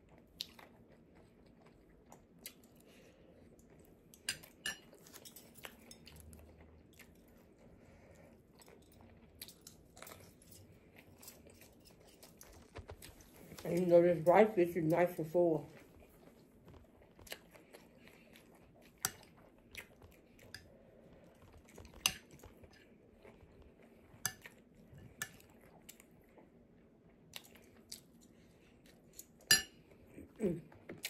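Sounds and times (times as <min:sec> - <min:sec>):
chewing fried rice: 0:00.0 - 0:13.7, 0:15.7 - 0:31.0.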